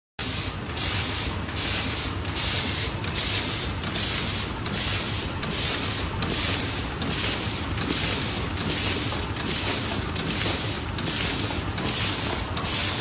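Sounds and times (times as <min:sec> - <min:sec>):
cyclic machine hiss: 0:00.2 - 0:13.0.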